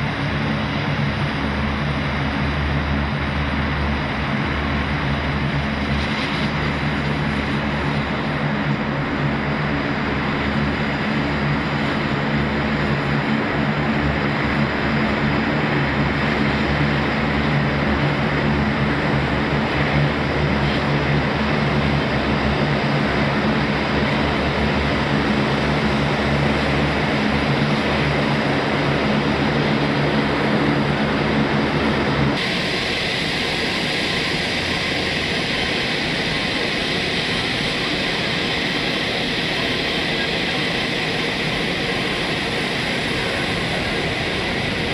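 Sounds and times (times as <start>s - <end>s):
propellers rushing as they slow: 0.0s - 44.9s
turboprop engines droning: 0.0s - 44.9s.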